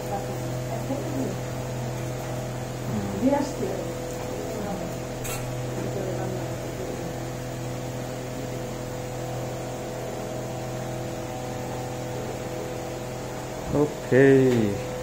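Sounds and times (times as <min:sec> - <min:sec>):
electrical hum of appliance: 0:00.0 - 0:15.0.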